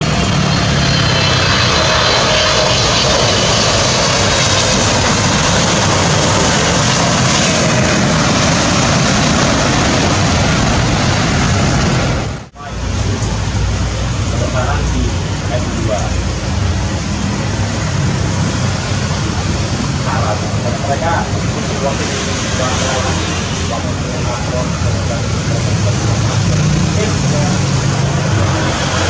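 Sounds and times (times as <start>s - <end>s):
faint jet engine whine: 0.0s - 29.0s
jet engine roar: 0.0s - 29.0s.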